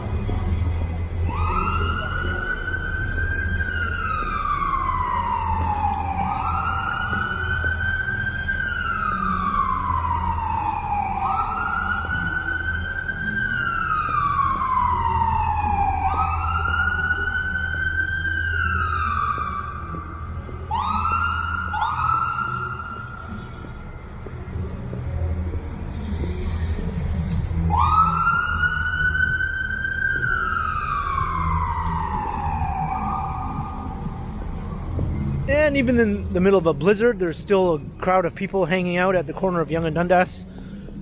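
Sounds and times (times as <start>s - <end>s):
emergency siren wailing: 0.0s - 36.8s.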